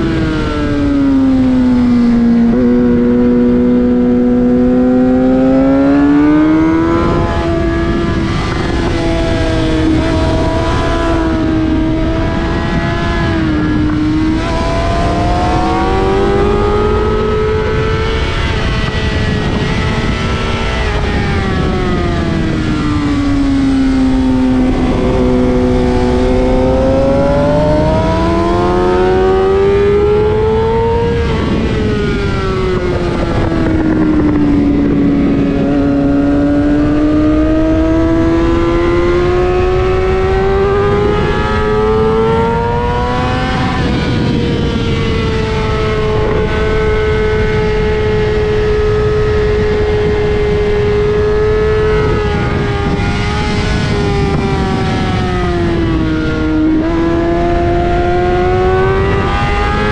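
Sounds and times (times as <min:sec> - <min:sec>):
motorcycle engine revving: 0:00.0 - 0:59.9
wind noise: 0:00.0 - 0:59.9.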